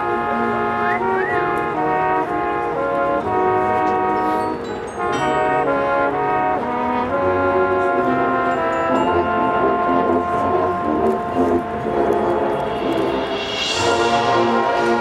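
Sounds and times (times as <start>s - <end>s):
brass band playing held chords: 0.0s - 15.0s.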